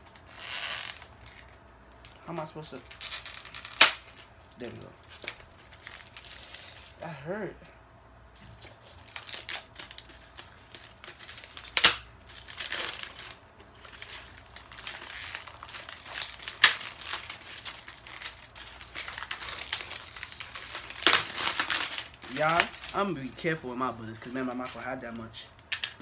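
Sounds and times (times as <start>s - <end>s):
plastic packaging crinkling: 0.0s - 7.0s, 8.4s - 26.0s.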